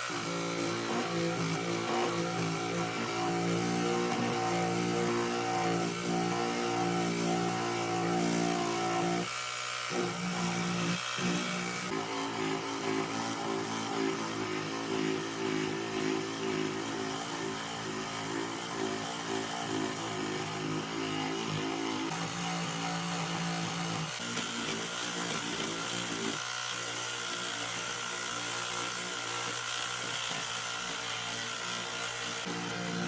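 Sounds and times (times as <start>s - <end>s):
power tool motor whine: 0.0s - 33.0s.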